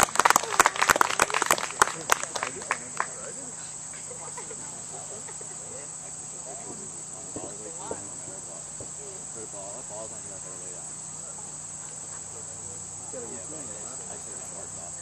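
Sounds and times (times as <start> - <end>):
crickets chirping: 0.0 - 15.0
distant voices murmuring: 0.0 - 15.0.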